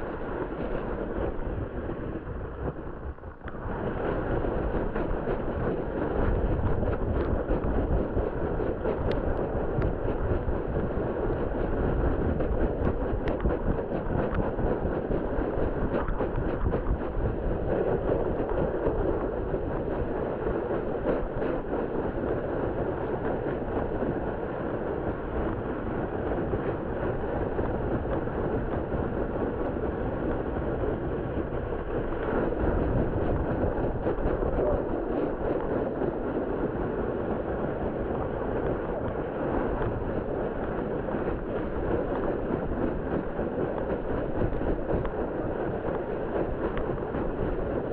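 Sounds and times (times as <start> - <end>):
sled scraping over snow: 0.0 - 47.9.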